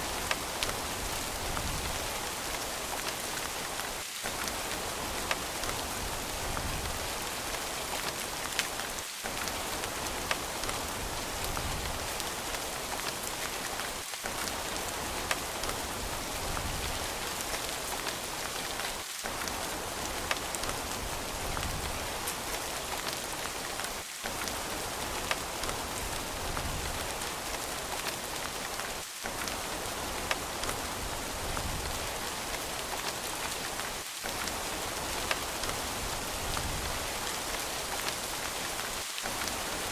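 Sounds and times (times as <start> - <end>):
steady rain hiss: 0.0 - 39.9
sharp raindrop ticks: 0.1 - 39.9.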